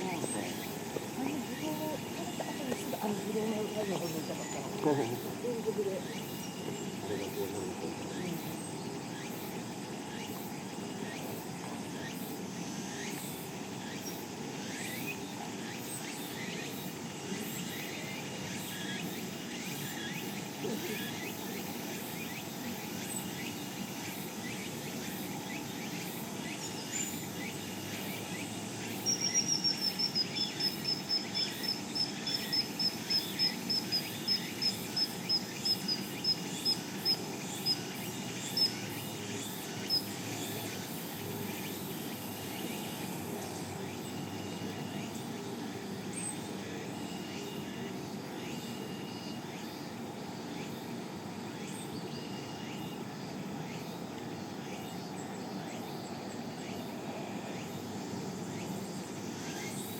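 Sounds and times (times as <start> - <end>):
outdoor background noise: 0.0 - 59.9.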